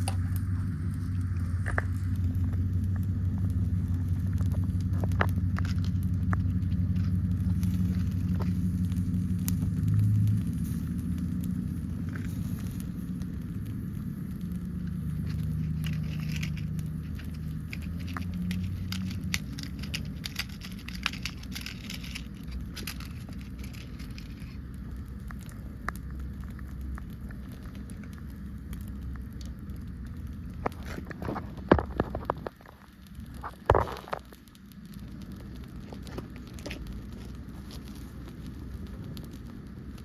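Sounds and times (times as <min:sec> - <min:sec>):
fire crackling and popping: 0:00.0 - 0:40.0
low rumble: 0:00.0 - 0:40.0.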